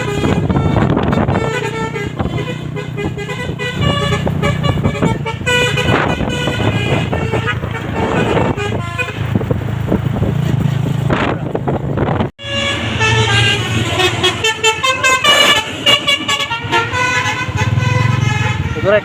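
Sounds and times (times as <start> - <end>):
multi-note air horn tune: 0.0 - 9.2, 12.4 - 19.0
truck engine running: 0.0 - 18.8.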